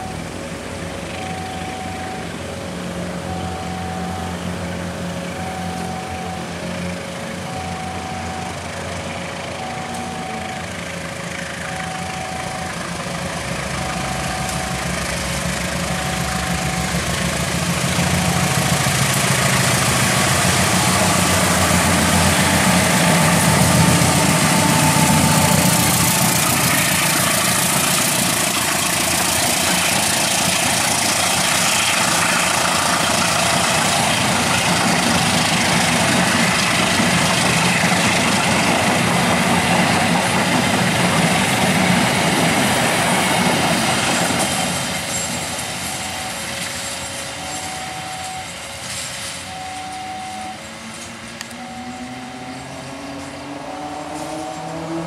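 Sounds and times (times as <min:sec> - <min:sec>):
level crossing two-tone alarm: 0:00.0 - 0:00.5, 0:01.1 - 0:55.0
diesel locomotive passing: 0:00.0 - 0:55.0
train coaches rolling on rails: 0:00.0 - 0:55.0.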